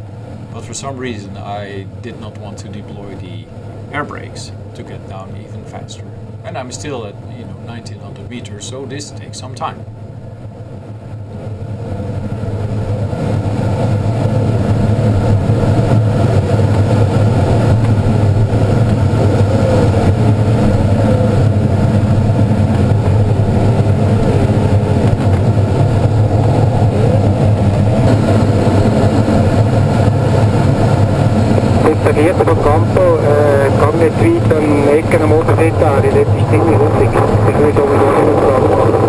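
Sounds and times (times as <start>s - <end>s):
rush of air over canopy: 0.0s - 39.0s.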